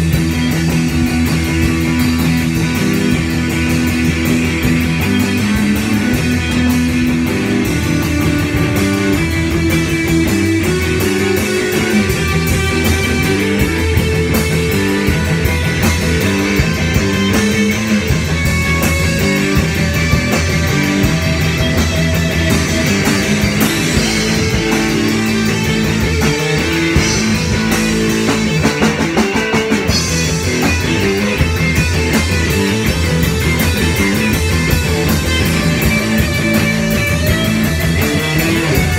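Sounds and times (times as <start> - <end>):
drum kit with cymbals: 0.0 - 38.9
electric guitars: 0.0 - 38.9.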